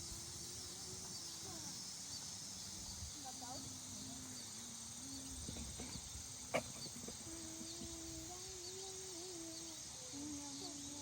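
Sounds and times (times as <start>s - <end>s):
crickets and insects chorus: 0.0s - 11.0s
faint steady hum: 0.0s - 11.0s.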